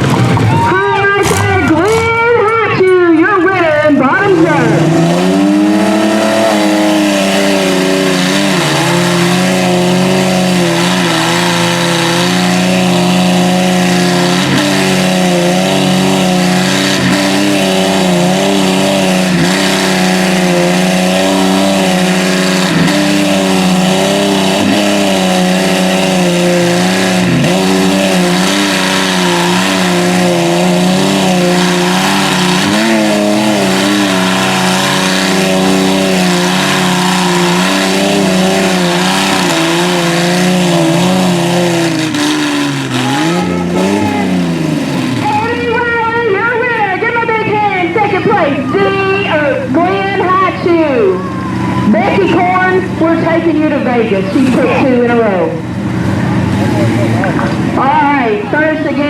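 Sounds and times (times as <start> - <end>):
pickup truck engines straining: 0.0 - 59.0.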